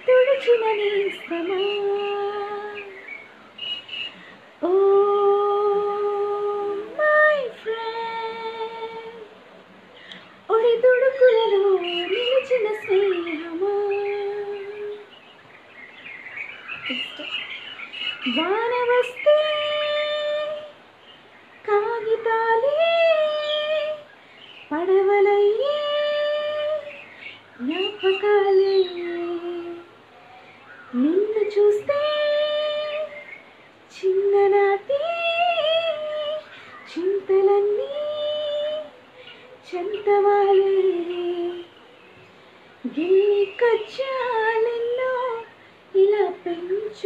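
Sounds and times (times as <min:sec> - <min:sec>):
woman singing unaccompanied: 0:00.0 - 0:09.3, 0:10.4 - 0:15.5, 0:16.1 - 0:47.0.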